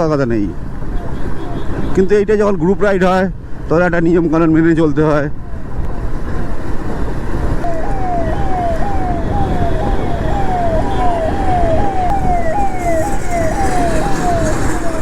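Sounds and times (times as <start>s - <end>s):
road and wind noise: 0.0s - 15.0s
emergency vehicle siren: 0.3s - 2.0s, 4.4s - 15.0s.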